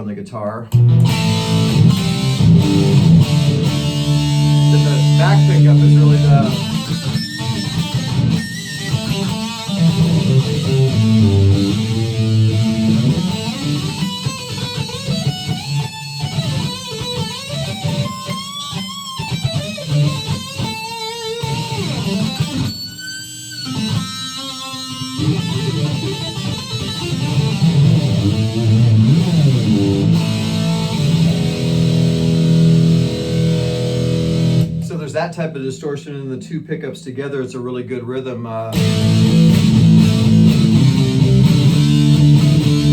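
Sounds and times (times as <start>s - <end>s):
overdriven electric guitar licks: 0.7s - 36.0s, 38.2s - 42.9s.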